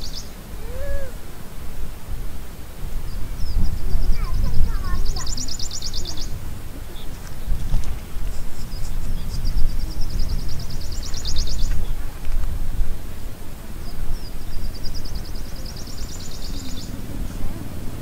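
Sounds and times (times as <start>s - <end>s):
songbird trilling: 0.0s - 1.2s, 3.0s - 12.1s, 13.8s - 18.0s
steady low rumble: 2.2s - 18.0s.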